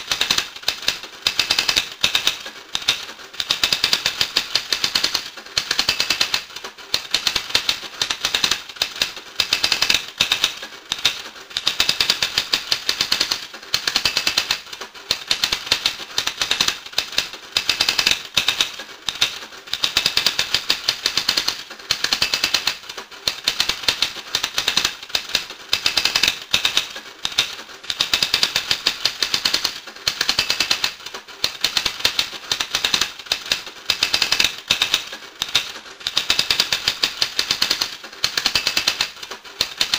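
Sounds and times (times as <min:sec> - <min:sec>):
rapid dense clicking: 0:00.0 - 0:39.9.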